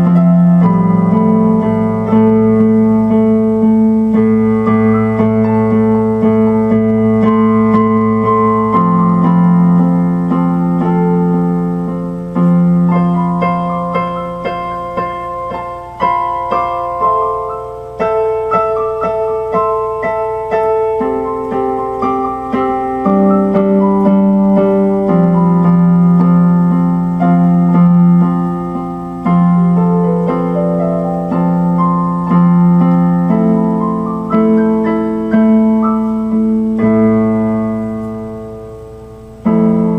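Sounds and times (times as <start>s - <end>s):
electronic keyboard piano chords: 0.0s - 39.9s.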